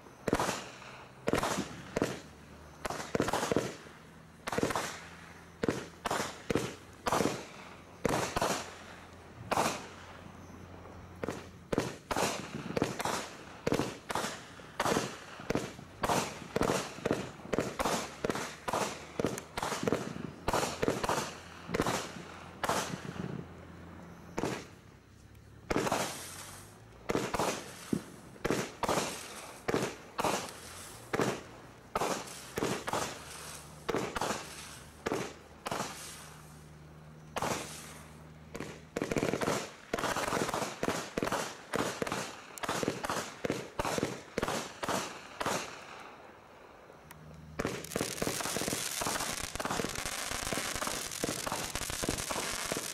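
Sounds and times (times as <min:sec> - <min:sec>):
fireworks shots and bursts: 0:00.0 - 0:24.9, 0:25.6 - 0:46.2, 0:47.4 - 0:52.9.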